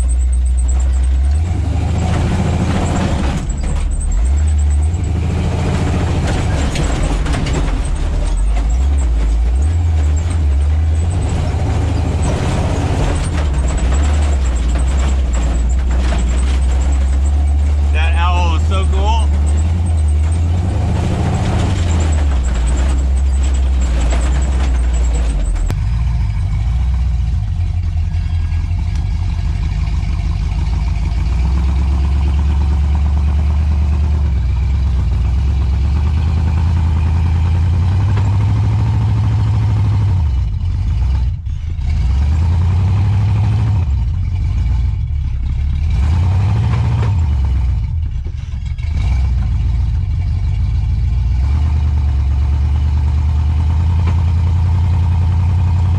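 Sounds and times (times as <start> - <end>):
truck engine pulling under load: 0.0 - 55.9.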